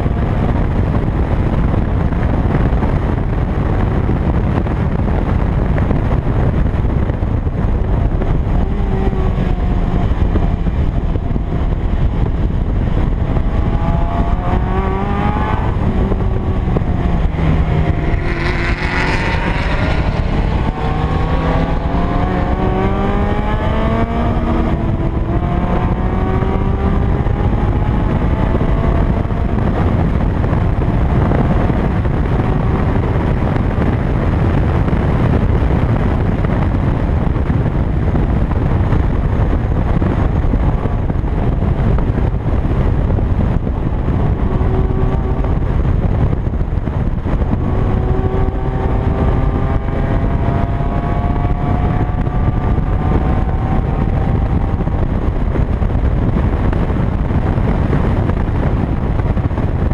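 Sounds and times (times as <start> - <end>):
wind and road noise: 0.0 - 59.9
car engine under load: 4.5 - 59.9.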